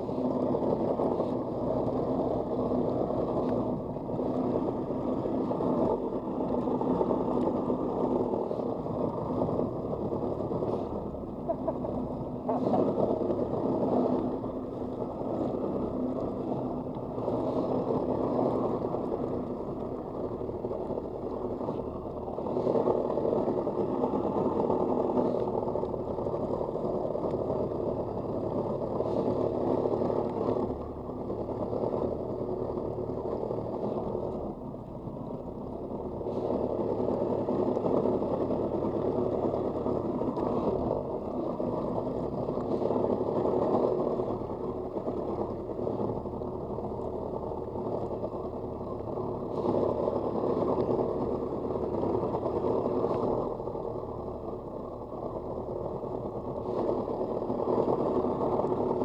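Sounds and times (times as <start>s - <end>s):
muffled jet ski engine: 0.0s - 59.0s.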